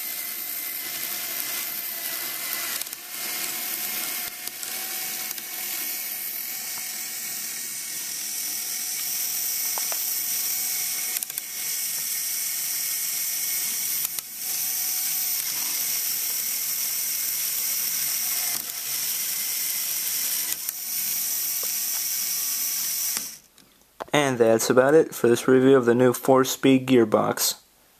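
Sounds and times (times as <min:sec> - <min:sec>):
whir of plastic gears: 0:00.0 - 0:23.5.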